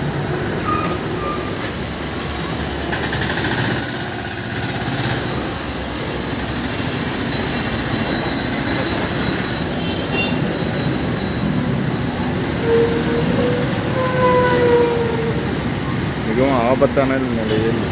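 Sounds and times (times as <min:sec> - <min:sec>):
road traffic noise: 0:00.0 - 0:17.9.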